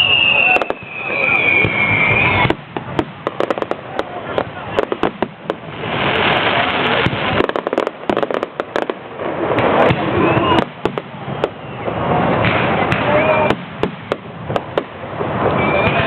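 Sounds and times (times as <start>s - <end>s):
fireworks bangs and pops: 0.0s - 16.0s
fireworks crackling: 0.0s - 16.0s.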